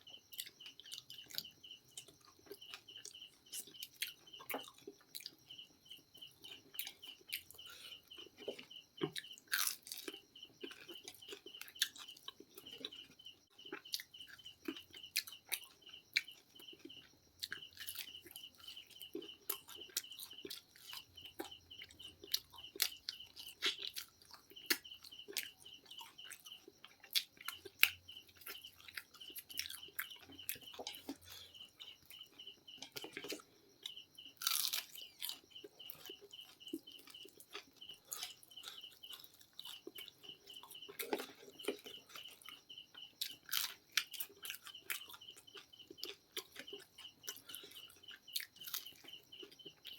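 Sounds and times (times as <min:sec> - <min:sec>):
chewing and crunching fried chicken: 0:00.0 - 0:49.9.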